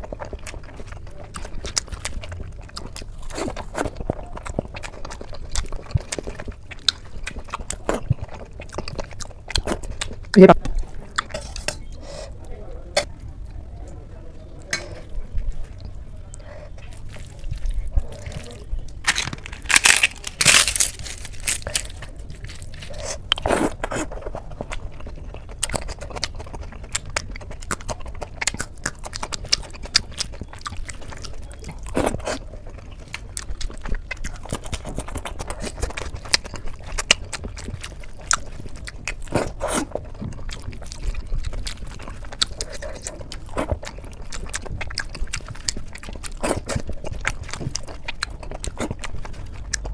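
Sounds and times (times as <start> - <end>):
chewing: 0.0 - 14.0, 14.6 - 49.9.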